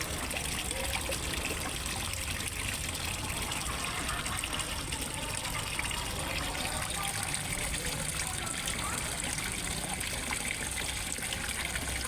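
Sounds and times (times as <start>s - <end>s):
water splashing into pond: 0.0s - 12.0s.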